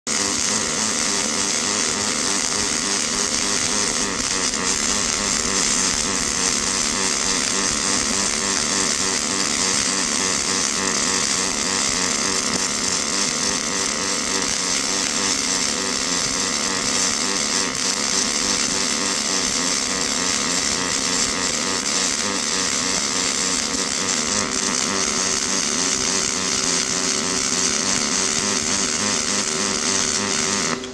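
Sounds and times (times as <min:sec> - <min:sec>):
welding arc burning: 0:00.1 - 0:30.9.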